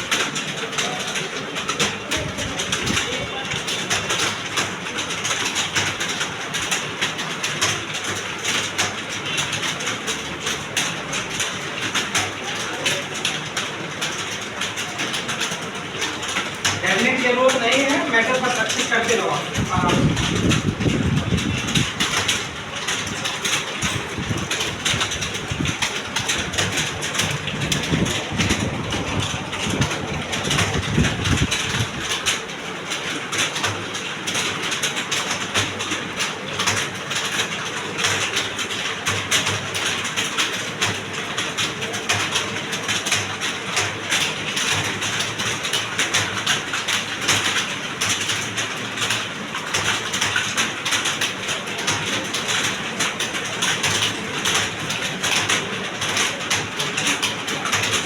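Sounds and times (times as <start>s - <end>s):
keyboards clattering: 0.0s - 58.0s.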